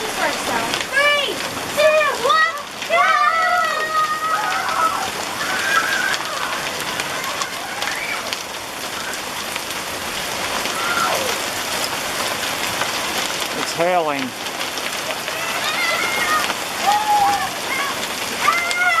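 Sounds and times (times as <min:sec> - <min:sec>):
hailstones ticking: 0:00.0 - 0:19.0
rain hissing: 0:00.0 - 0:19.0.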